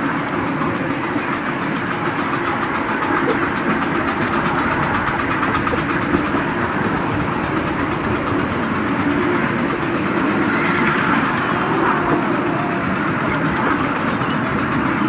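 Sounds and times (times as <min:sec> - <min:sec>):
miniature steam locomotive working: 0:00.0 - 0:15.0
small wheels rolling on rails: 0:00.0 - 0:15.0.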